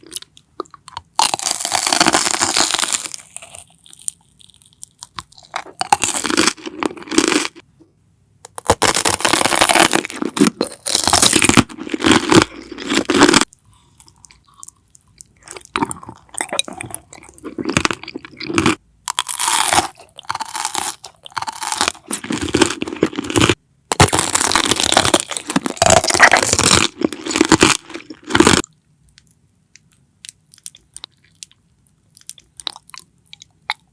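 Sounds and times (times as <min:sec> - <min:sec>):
chewing crisp food: 0:00.0 - 0:07.6, 0:08.7 - 0:33.9.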